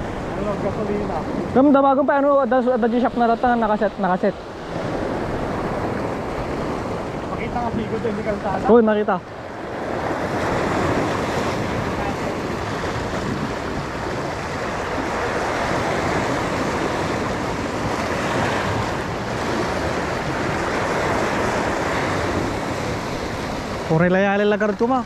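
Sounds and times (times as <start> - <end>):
surf breaking over rocks: 0.0 - 25.0
wind buffeting microphone: 0.0 - 25.0.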